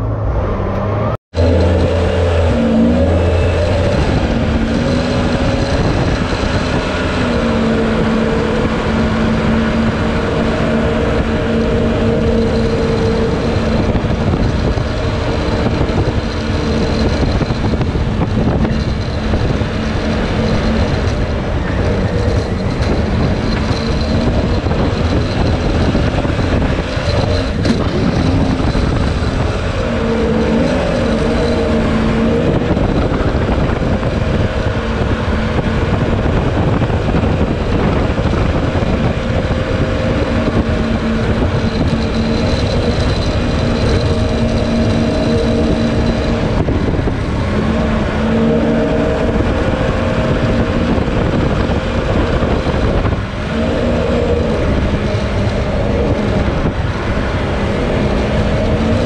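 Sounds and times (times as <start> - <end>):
boat engine revving: 0.0 - 59.0.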